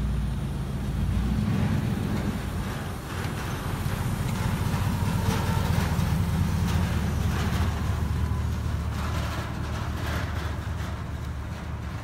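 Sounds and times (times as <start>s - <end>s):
truck engine rumbling past: 0.0s - 12.0s.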